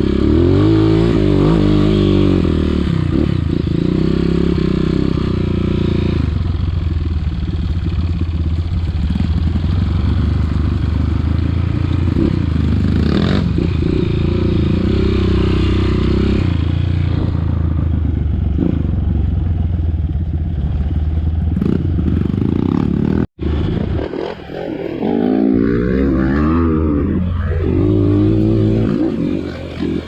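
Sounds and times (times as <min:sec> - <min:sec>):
dirt bike engine revving: 0:00.0 - 0:06.8, 0:08.8 - 0:19.2, 0:20.6 - 0:30.0.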